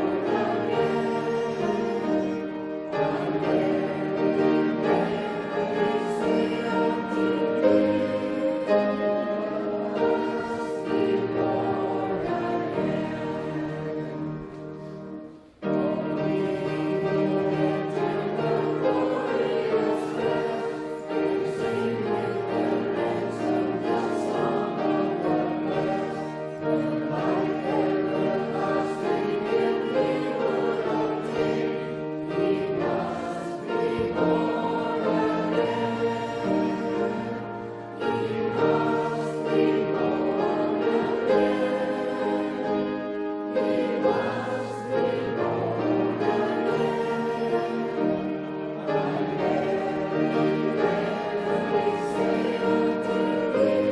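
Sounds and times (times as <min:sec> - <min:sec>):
choir singing: 0:00.0 - 0:53.9
instrumental accompaniment: 0:00.0 - 0:53.9.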